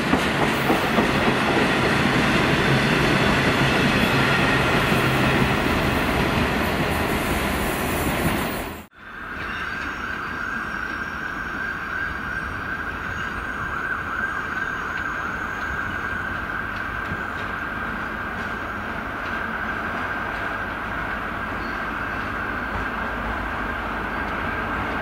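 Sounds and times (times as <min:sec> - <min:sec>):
distant train rumbling: 0:00.0 - 0:25.0
freight wagons rumbling on rail: 0:00.0 - 0:25.0.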